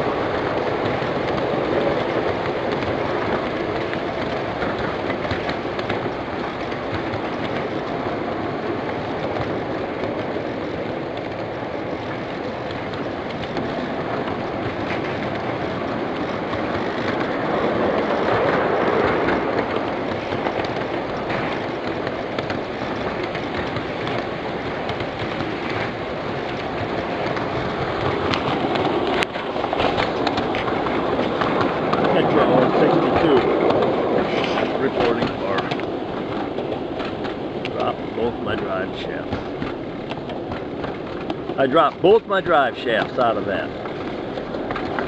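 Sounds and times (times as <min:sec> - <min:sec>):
miniature train wheels clattering: 0:00.0 - 0:45.0.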